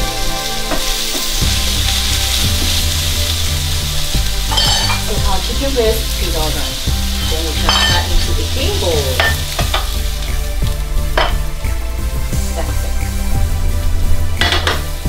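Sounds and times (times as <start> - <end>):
chicken sizzling in frying pan: 0.0 - 13.8.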